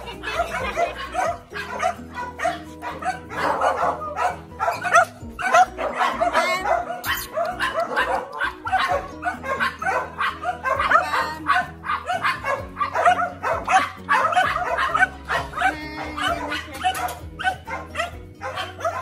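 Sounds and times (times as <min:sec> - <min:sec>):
background music with held notes: 0:00.0 - 0:19.0
dogs yipping and whining: 0:00.0 - 0:19.0.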